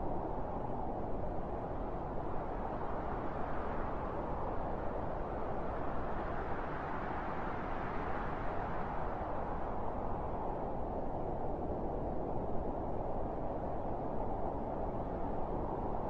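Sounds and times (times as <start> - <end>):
steady wind: 0.0 - 16.0.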